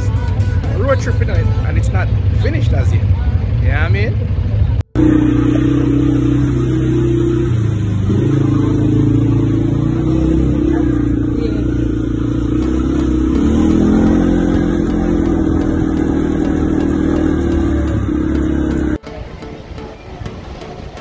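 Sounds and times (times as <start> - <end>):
quad bike engine running: 0.0 - 19.2.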